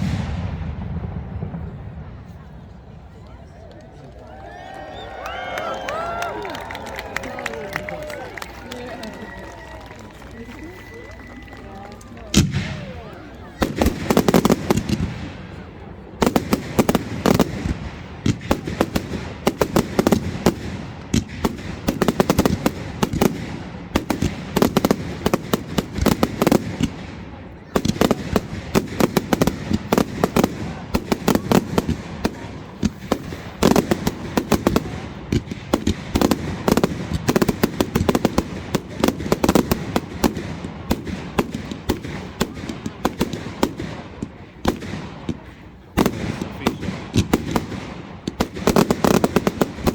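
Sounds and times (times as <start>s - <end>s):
fireworks bangs and crackling: 0.0s - 49.9s.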